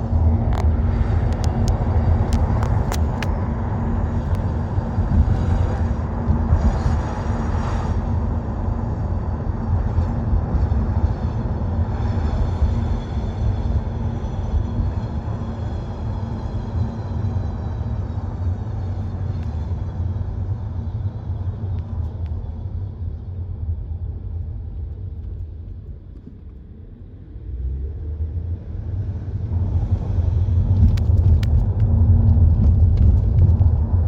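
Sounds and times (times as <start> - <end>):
car rumbling and humming: 0.0 - 34.0.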